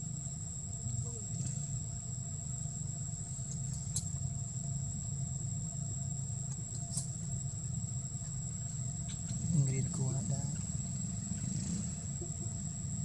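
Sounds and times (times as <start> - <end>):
high-pitched whine: 0.0 - 13.0
low droning hum: 0.0 - 13.0.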